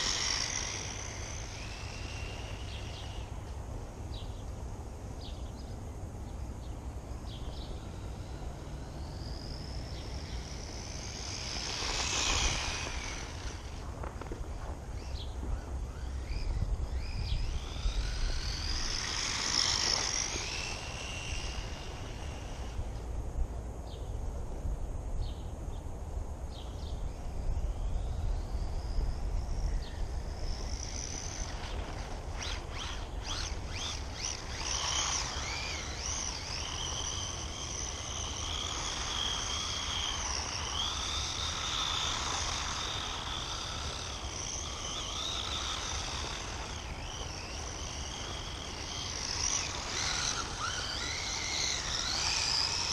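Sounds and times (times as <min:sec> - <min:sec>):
toy car motor whine: 0:00.0 - 0:04.4, 0:07.2 - 0:23.3, 0:27.1 - 0:52.9.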